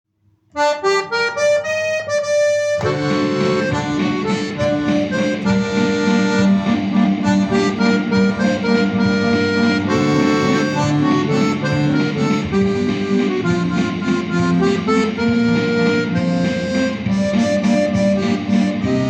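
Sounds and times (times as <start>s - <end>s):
chords and bass line: 0.6s - 19.0s.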